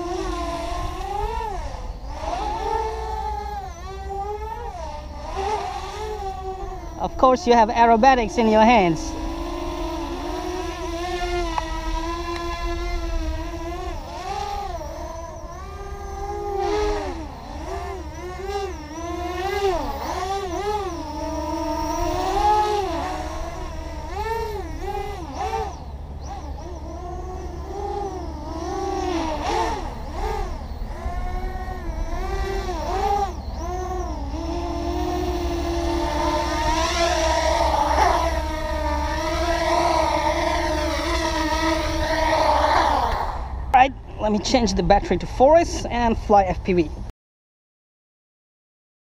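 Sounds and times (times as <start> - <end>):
drone motors whining: 0.0 - 47.1.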